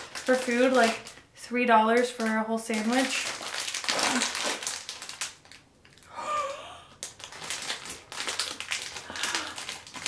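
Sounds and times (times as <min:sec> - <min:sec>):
plastic wrapper crinkling: 0:00.0 - 0:06.1, 0:06.9 - 0:10.0.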